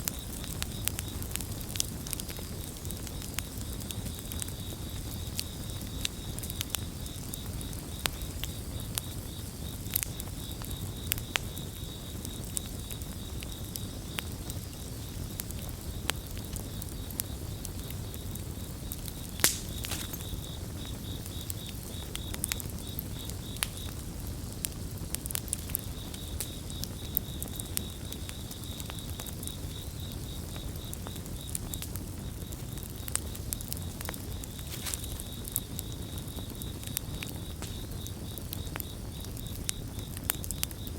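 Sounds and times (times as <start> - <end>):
campfire crackling and popping: 0.0 - 40.9
cricket chirping trill: 0.0 - 40.9.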